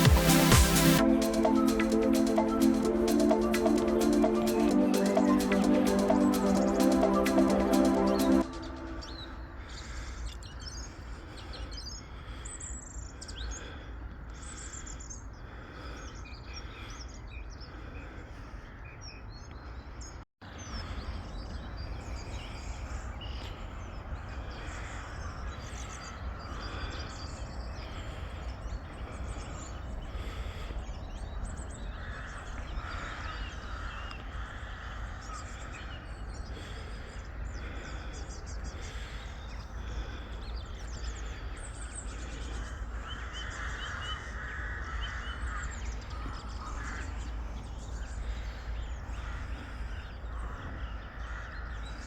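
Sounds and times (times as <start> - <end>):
small birds chirping and singing: 0.0 - 52.0.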